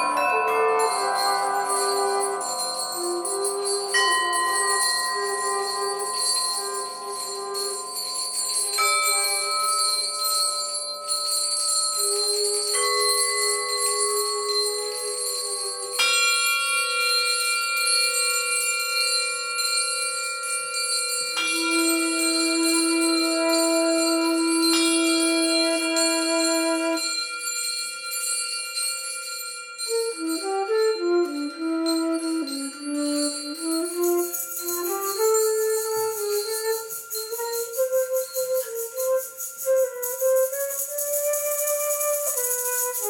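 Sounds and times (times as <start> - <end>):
flute playing slow notes: 0.0 - 16.7, 21.4 - 27.5, 29.8 - 43.0
metal bells and cymbals ringing: 0.0 - 43.0.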